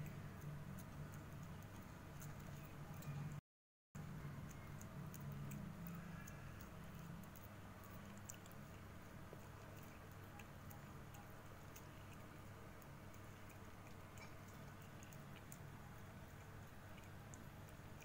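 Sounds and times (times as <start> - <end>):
cat licking and chewing food: 0.0 - 3.4, 4.0 - 18.0
low steady hum: 0.0 - 3.4, 4.0 - 18.0.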